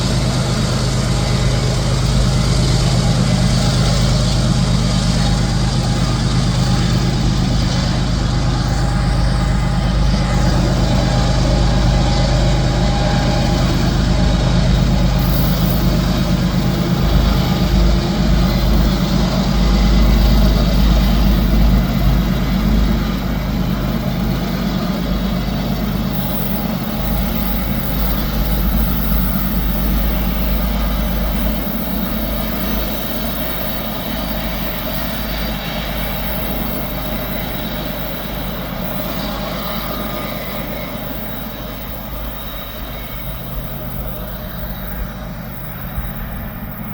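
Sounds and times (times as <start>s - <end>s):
locomotive engine rumble: 0.0s - 46.9s
rail cars rolling: 0.0s - 46.9s.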